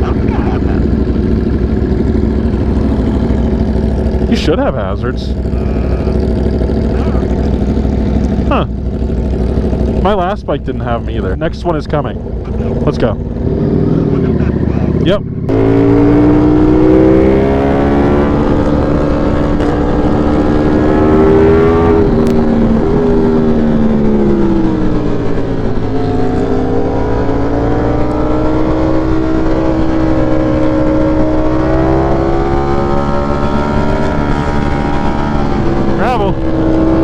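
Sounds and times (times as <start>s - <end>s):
motorcycle engine pulling away: 0.0s - 37.0s.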